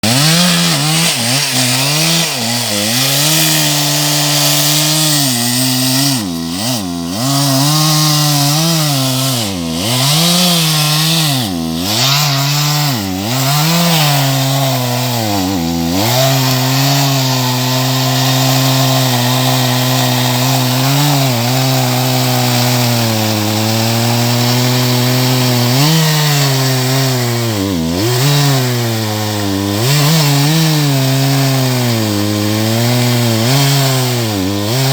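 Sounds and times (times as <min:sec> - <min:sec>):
chainsaw cutting timber: 0:00.0 - 0:34.9.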